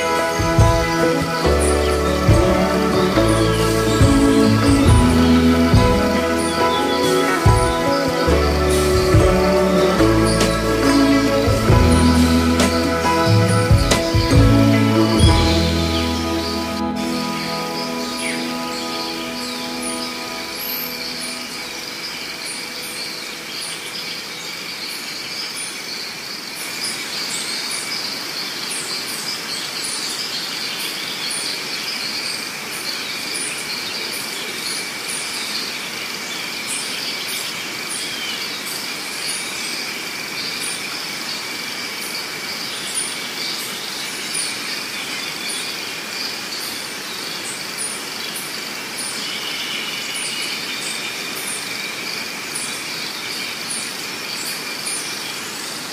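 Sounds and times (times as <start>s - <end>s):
insect chorus droning: 0.0s - 55.9s.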